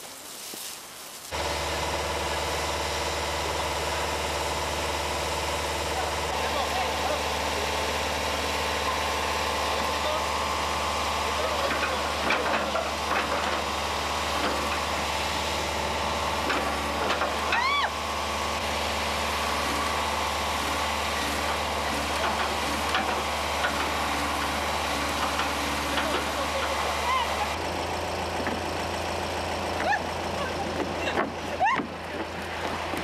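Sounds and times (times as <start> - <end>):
bulldozer engine running: 1.3 - 33.0.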